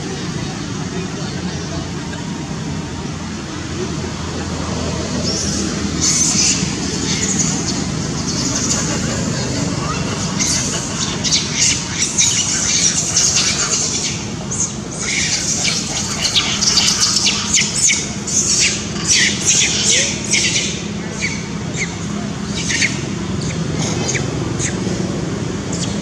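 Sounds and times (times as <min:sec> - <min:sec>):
monkeys screaming: 0:04.0 - 0:25.0, 0:25.6 - 0:26.0.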